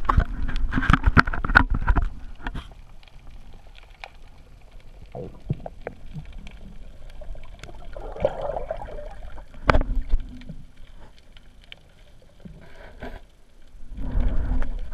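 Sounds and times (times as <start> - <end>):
water gurgling: 0.0 - 13.0
muffled underwater water noise: 0.0 - 14.9.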